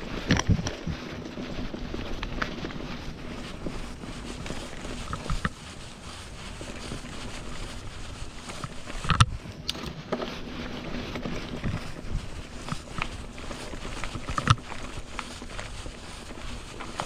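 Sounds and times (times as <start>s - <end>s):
bike knocking and rattling on bumps: 0.0s - 17.0s
bike tyres on dirt and leaves: 0.0s - 17.0s.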